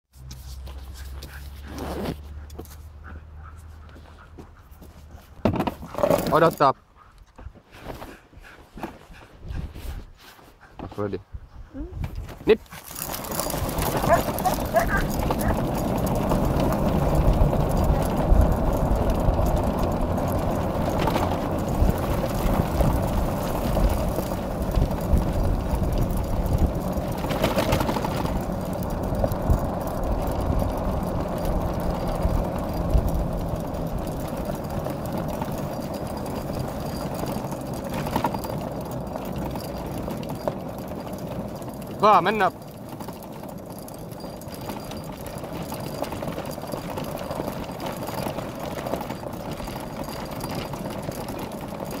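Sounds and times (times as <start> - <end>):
tyres and frame rumbling and rattling: 0.2 - 52.0.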